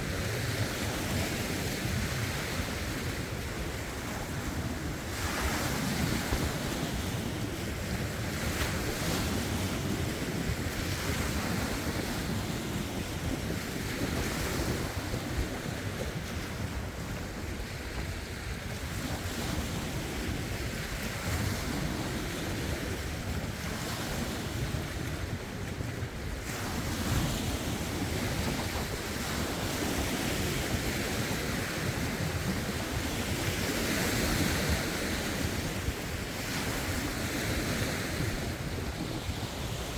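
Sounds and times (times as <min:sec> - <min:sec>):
lake waves splashing over rocks: 0:00.0 - 0:39.9
wind buffeting microphone: 0:00.0 - 0:39.9.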